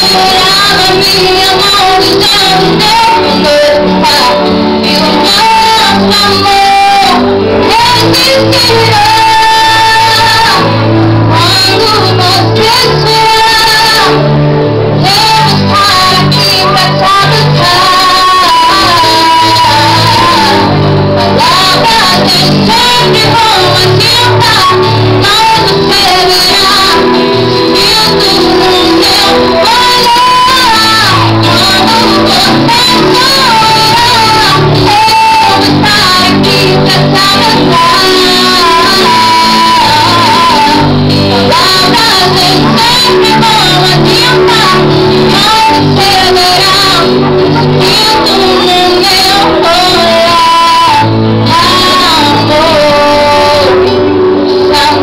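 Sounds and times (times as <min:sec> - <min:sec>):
electronic keyboard chords: 0:00.0 - 0:55.0
woman singing into microphone: 0:00.0 - 0:55.0.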